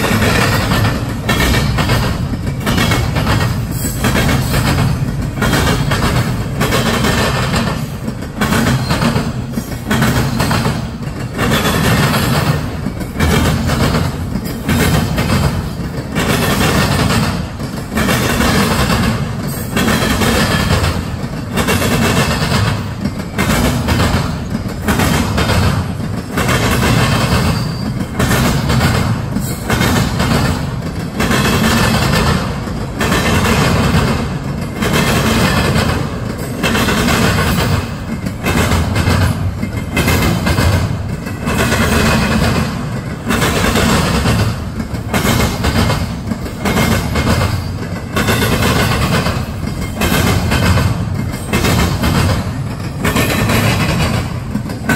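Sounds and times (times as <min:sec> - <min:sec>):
train wheels clattering on rails: 0:00.0 - 0:54.9.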